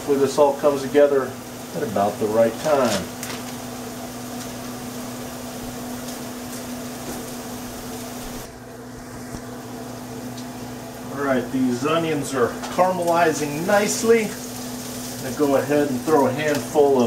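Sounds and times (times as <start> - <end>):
microwave oven humming: 0.0 - 17.0
vegetables sizzling in a pan: 0.0 - 17.0
water boiling: 0.0 - 17.0.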